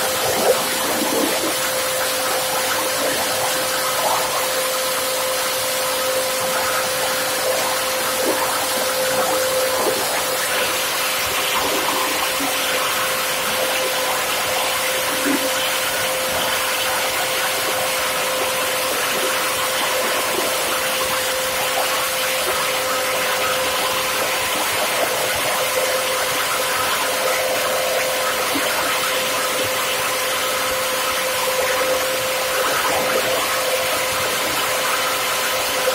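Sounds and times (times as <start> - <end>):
plastic grinder running with whine: 0.0 - 35.9.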